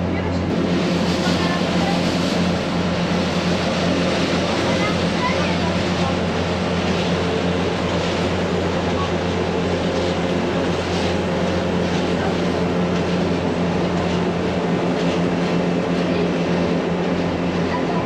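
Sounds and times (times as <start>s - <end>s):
train motor hum: 0.0s - 18.0s
train rolling noise: 0.0s - 18.0s.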